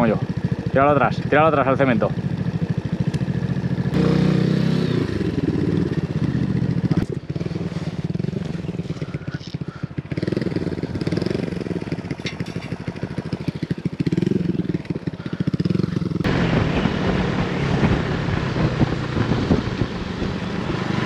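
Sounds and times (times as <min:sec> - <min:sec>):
motorcycle engine idling: 0:00.0 - 0:17.8.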